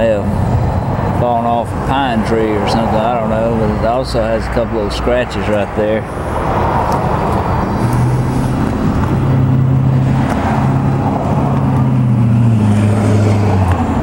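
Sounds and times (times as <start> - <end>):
noisy background: 0.0 - 14.0
vehicle engine droning: 0.0 - 14.0.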